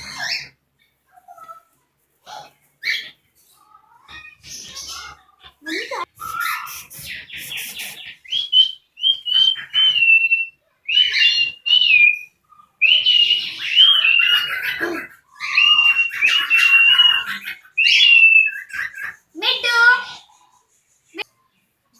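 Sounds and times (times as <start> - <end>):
birds harsh whistled calls: 0.0 - 1.6, 2.3 - 21.3.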